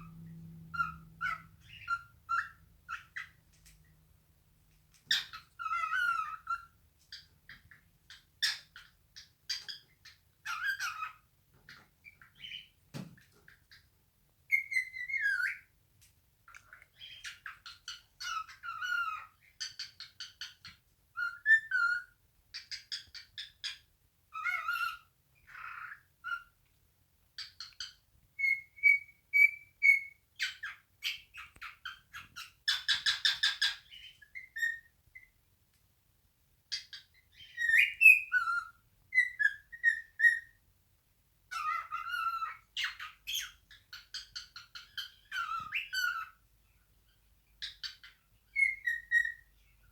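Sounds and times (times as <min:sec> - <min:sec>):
cockatiel whistling and chirping: 0:00.0 - 0:03.4, 0:05.1 - 0:12.7, 0:14.5 - 0:15.7, 0:16.6 - 0:26.5, 0:27.4 - 0:35.3, 0:36.7 - 0:40.6, 0:41.5 - 0:46.4, 0:47.6 - 0:49.7.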